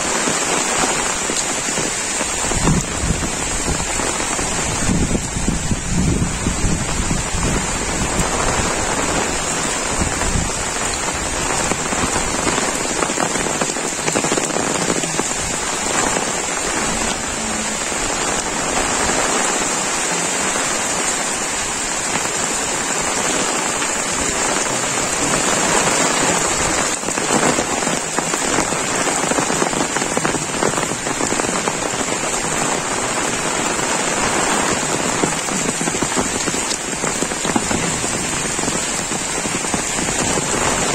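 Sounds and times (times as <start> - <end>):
heavy rain on umbrella: 0.0 - 40.9.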